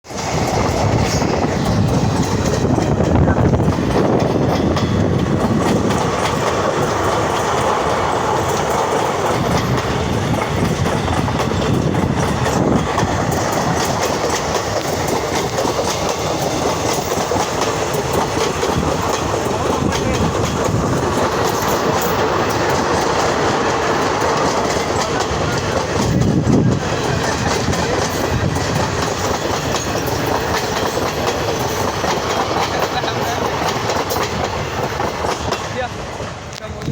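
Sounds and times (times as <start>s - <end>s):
train wheels clacking on rails: 0.0s - 36.9s.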